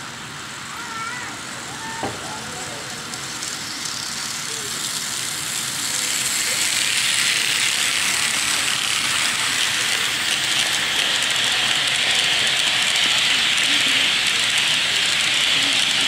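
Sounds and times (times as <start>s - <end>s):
model locomotive motors: 0.0s - 16.0s
model train wheels clattering: 1.8s - 16.0s.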